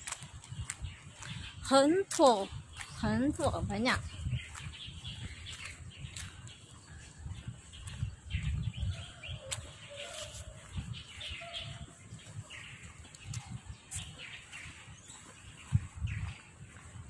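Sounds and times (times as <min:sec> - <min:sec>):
low rumbles on the microphone: 0:00.0 - 0:17.0
small birds chirping: 0:00.0 - 0:17.0.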